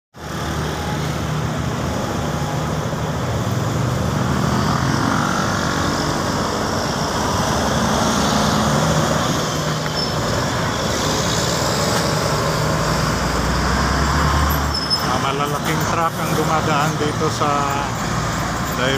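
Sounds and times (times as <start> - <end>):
heavy road traffic: 0.1 - 18.9
truck rumble: 0.2 - 18.9.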